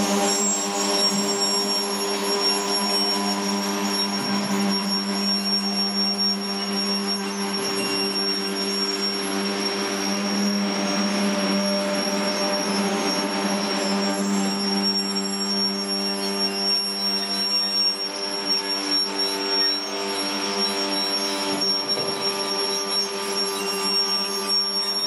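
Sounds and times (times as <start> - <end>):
work train engine droning: 0.0 - 25.0.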